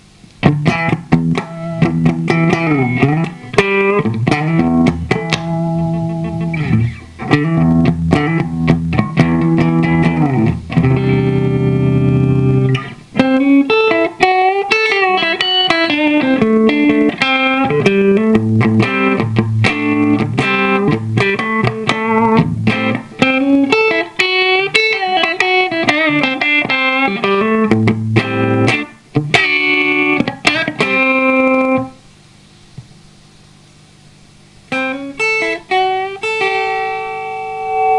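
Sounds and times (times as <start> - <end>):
electric guitar notes and chords: 0.4 - 32.0, 34.7 - 37.9.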